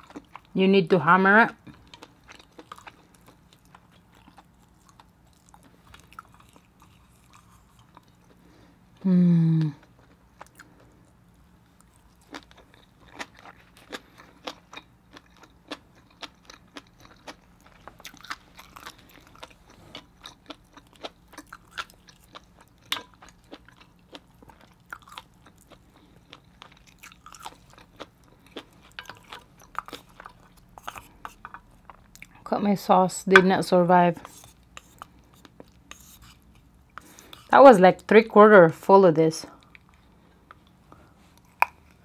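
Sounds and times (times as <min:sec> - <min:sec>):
wet chewing with crunches: 0:00.0 - 0:00.6, 0:01.6 - 0:09.0, 0:09.6 - 0:32.5, 0:34.2 - 0:37.6, 0:39.5 - 0:42.0.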